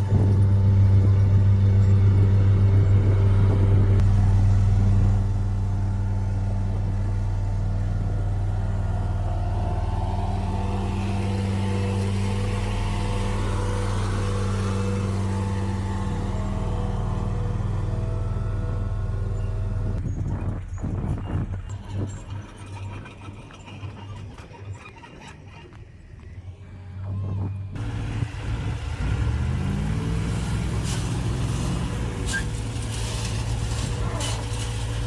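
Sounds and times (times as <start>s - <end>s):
bulldozer diesel engine humming: 0.0s - 35.0s.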